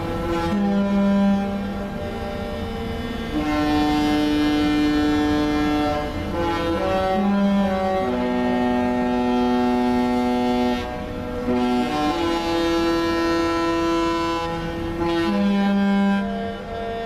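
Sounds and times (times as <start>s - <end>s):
ship horn playing a tune: 0.0s - 17.0s.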